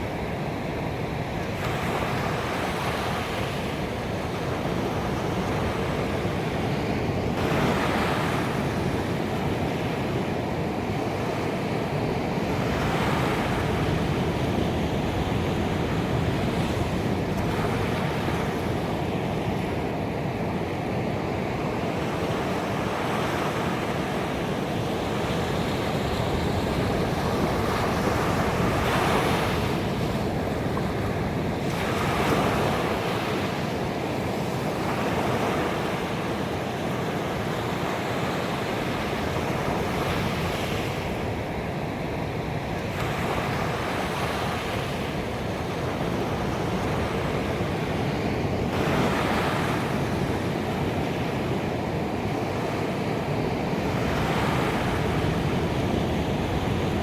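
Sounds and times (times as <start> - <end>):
ocean waves crashing on beach: 0.0 - 57.0.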